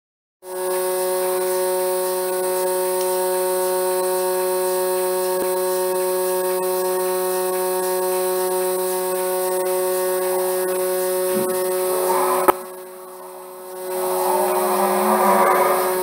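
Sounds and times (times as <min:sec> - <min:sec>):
vacuum pump humming: 0:00.6 - 0:16.0.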